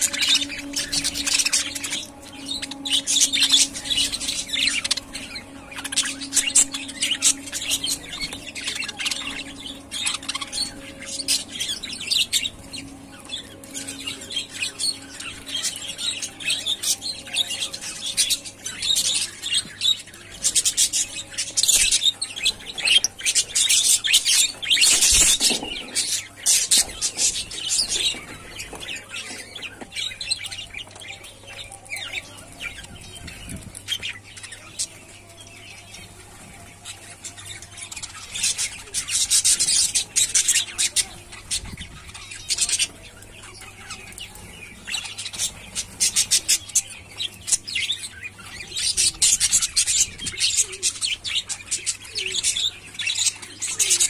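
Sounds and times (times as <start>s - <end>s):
budgerigars chattering and chirping: 0.0s - 54.0s.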